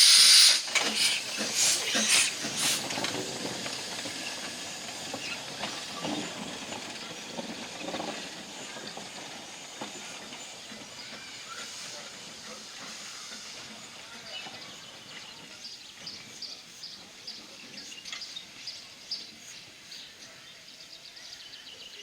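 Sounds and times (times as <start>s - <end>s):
steam hissing: 0.0s - 20.3s.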